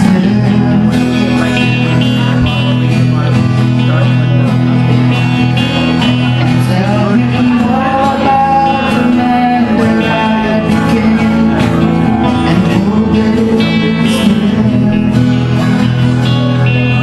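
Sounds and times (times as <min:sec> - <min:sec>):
acoustic guitars strumming: 0:00.0 - 0:17.0.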